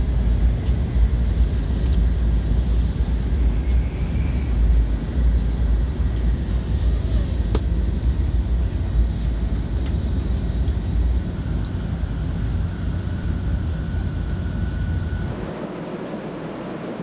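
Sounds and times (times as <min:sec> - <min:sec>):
train cabin rumble and hiss: 0:00.0 - 0:17.0.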